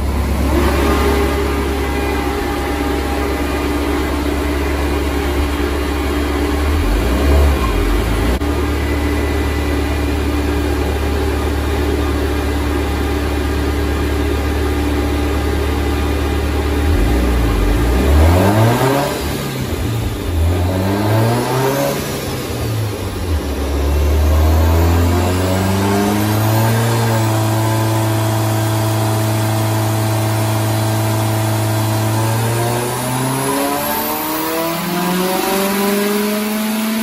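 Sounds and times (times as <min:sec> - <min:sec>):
turbocharged engine on dyno: 0:00.0 - 0:37.0.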